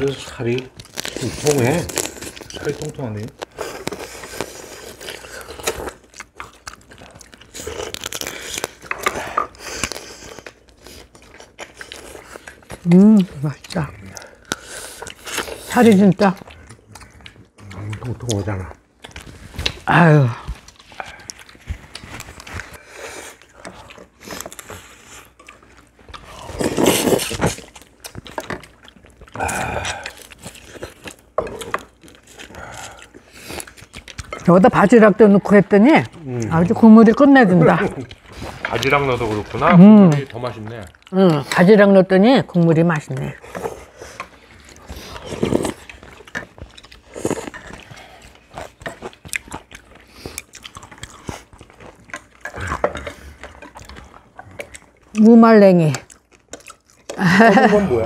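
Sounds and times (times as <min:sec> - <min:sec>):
people sucking and chewing crab: 0:00.0 - 0:34.9, 0:36.0 - 0:41.6, 0:43.2 - 0:55.3, 0:55.9 - 0:58.0.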